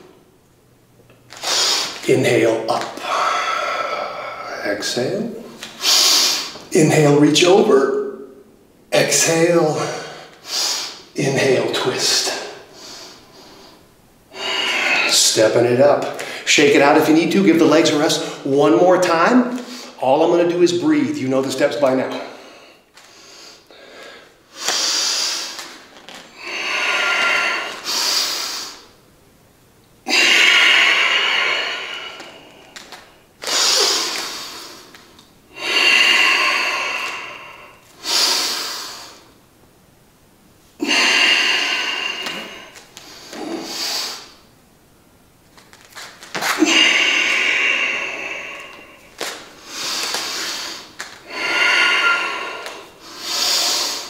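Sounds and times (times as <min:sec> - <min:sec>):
man breathing in and out: 0:01.2 - 0:02.0, 0:02.8 - 0:06.7, 0:09.2 - 0:11.2, 0:12.1 - 0:20.5, 0:21.5 - 0:29.0, 0:30.0 - 0:39.5, 0:40.6 - 0:44.6, 0:45.6 - 0:54.0.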